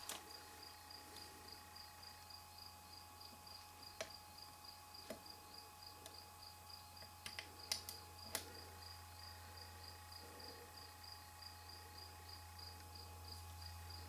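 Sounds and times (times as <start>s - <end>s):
low steady hum: 0.0s - 14.0s
cricket chirping: 0.3s - 14.0s.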